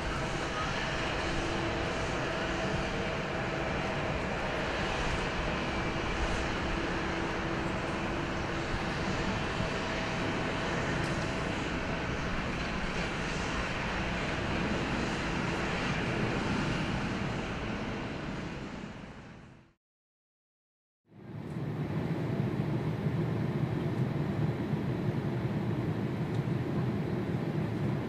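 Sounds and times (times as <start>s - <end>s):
jet engines running: 0.0s - 19.8s, 21.2s - 28.0s.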